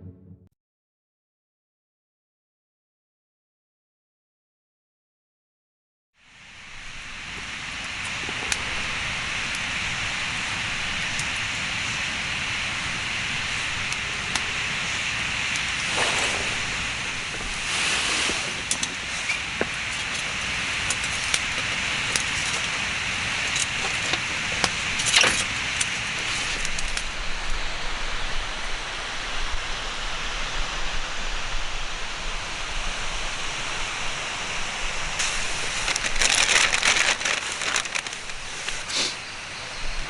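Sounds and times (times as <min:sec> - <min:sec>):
campfire crackling and hissing: 0:06.2 - 0:40.0.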